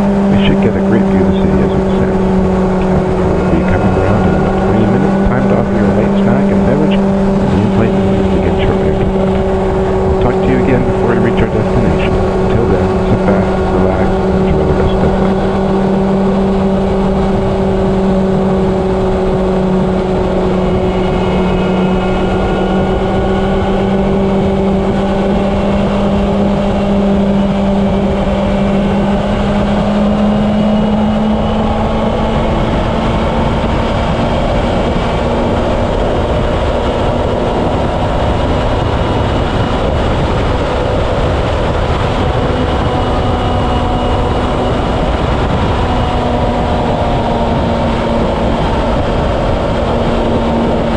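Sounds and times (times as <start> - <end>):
motorcycle engine cruising: 0.0 - 50.9
wind rushing over camera: 1.5 - 50.9.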